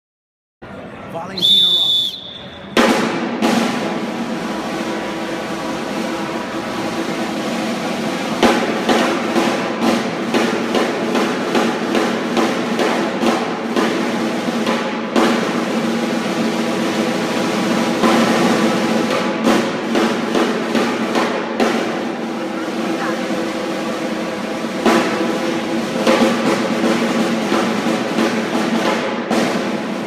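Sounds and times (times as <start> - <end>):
snare drums rolling cadence: 1.1 - 30.0.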